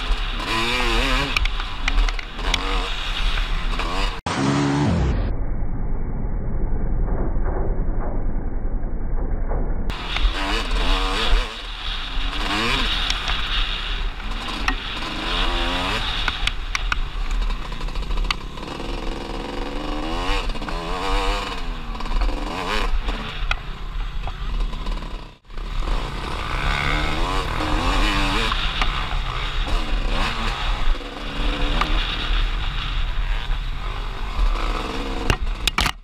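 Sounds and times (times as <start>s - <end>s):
off-road motorcycle engine revving: 0.0s - 5.3s, 9.9s - 36.0s.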